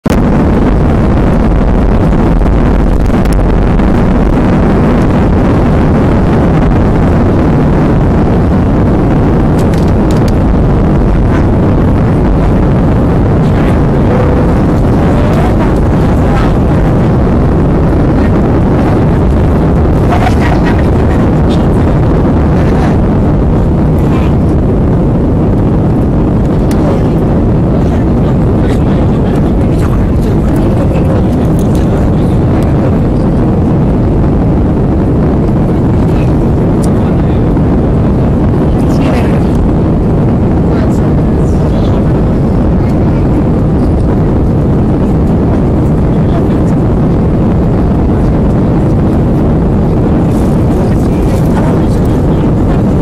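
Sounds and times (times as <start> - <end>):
jet engines rumbling: 0.0 - 53.0
rushing air: 0.0 - 53.0.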